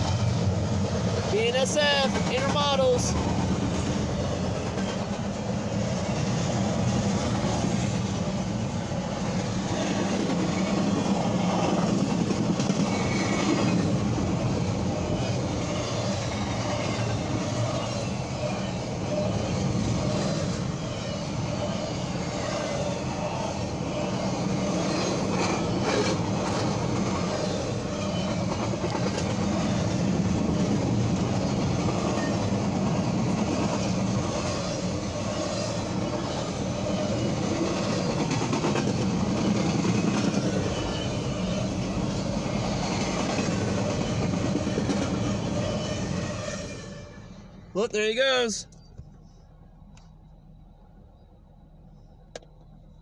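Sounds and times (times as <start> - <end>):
freight cars rumbling on rails: 0.0 - 49.2.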